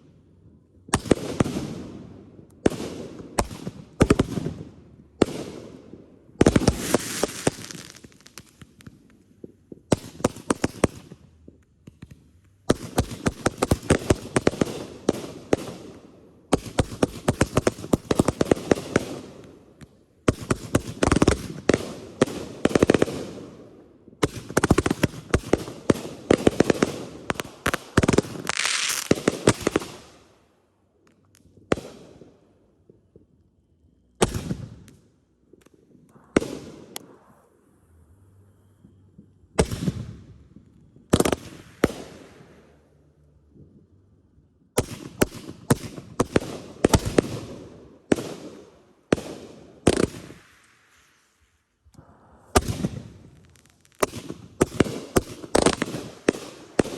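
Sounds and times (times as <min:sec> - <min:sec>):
fireworks bangs: 0:00.8 - 0:30.3, 0:34.1 - 0:43.9, 0:44.7 - 0:51.2, 0:52.0 - 0:56.9
fireworks crackling: 0:02.6 - 0:23.6, 0:24.2 - 0:30.3, 0:34.2 - 0:43.1, 0:44.8 - 0:56.9.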